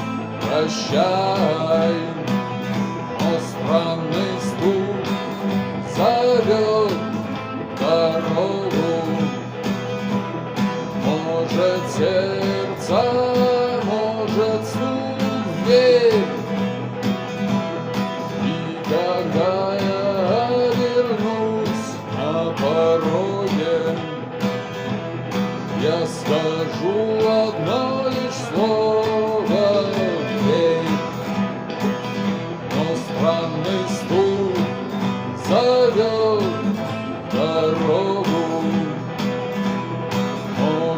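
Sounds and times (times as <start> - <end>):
song played with guitars: 0.0 - 40.9.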